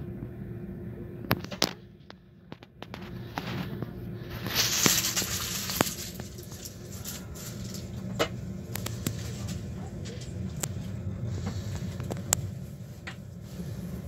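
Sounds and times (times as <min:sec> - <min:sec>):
train interior rumble: 0:00.0 - 0:14.0.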